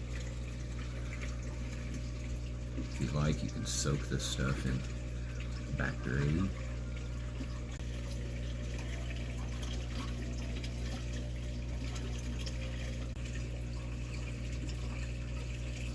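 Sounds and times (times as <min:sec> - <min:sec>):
aquarium water flowing: 0:00.0 - 0:15.9
pump humming: 0:00.0 - 0:15.9.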